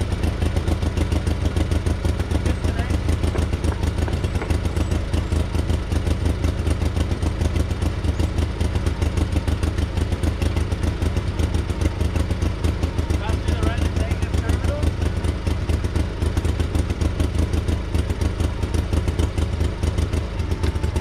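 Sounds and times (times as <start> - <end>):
engine running rhythmically: 0.0 - 21.0.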